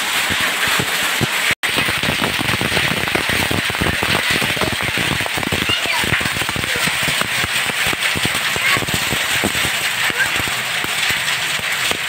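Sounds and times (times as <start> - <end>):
hailstones pattering on pavement: 0.0 - 12.0
heavy rain hissing: 0.0 - 12.0.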